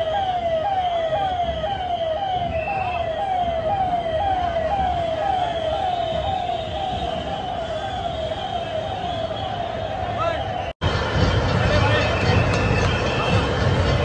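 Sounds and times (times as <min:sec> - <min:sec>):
ambulance siren wailing: 0:00.0 - 0:14.0.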